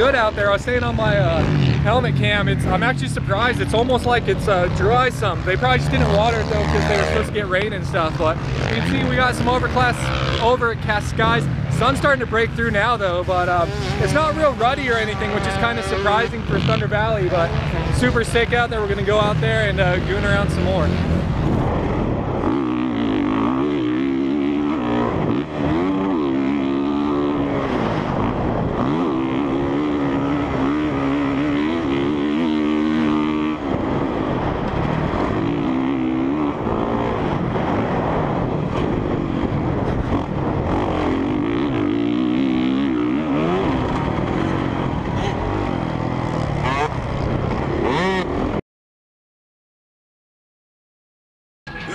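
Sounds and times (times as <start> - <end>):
dirt bike engine revving: 0.0 - 48.6.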